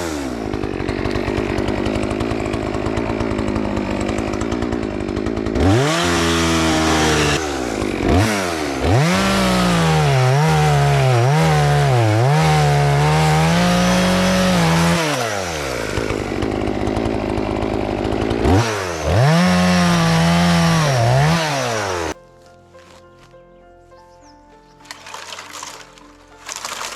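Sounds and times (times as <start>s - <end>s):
chainsaw cutting a tree: 0.0s - 22.2s, 24.8s - 26.9s.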